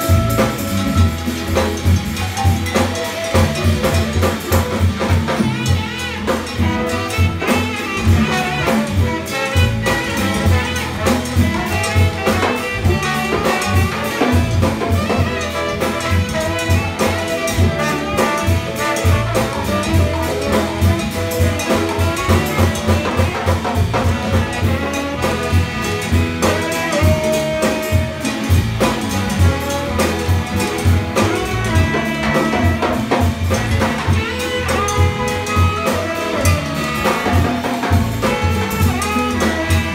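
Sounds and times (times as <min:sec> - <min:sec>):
jazz band playing: 0:00.0 - 0:39.9
trombone solo: 0:00.0 - 0:39.9.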